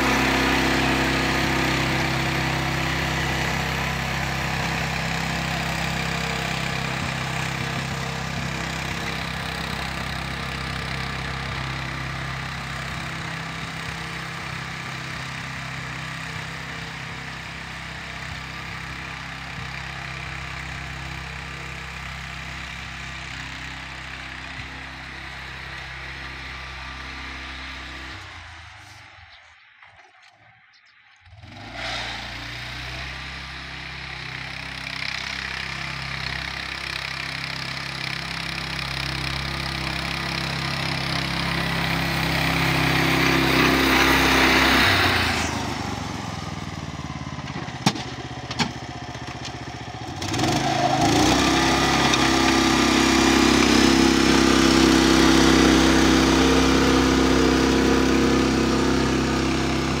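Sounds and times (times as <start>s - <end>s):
tractor engine running: 0.0s - 30.3s, 32.3s - 60.0s.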